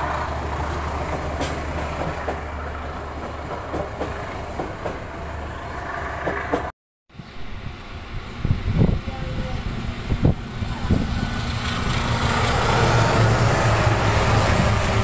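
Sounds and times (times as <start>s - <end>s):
diesel train drone: 0.0s - 15.0s
outdoor background: 0.0s - 15.0s
train rushing noise: 0.0s - 15.0s.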